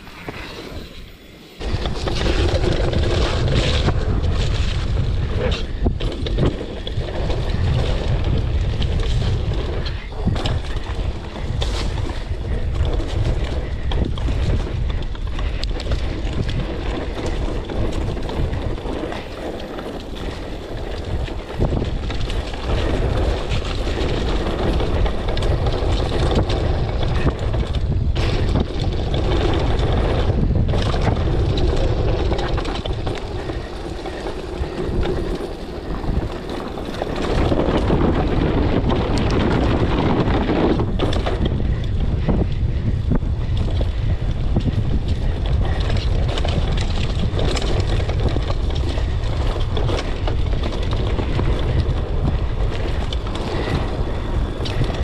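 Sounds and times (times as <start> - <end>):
bike tyre noise: 0.0 - 55.0
wind buffeting microphone: 0.0 - 55.0
bike knocks and rattles: 1.6 - 55.0.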